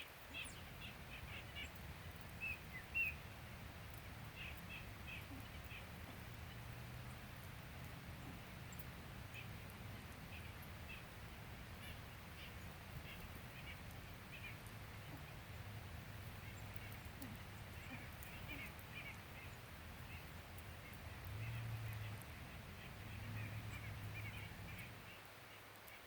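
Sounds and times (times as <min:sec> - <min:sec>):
faint bird calls: 0:00.0 - 0:26.0.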